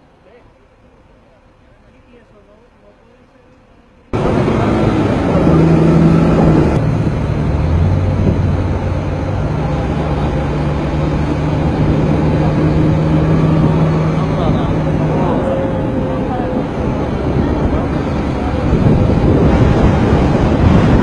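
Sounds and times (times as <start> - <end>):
road and wind noise: 0.0 - 21.0
vehicle engine drone: 0.0 - 21.0.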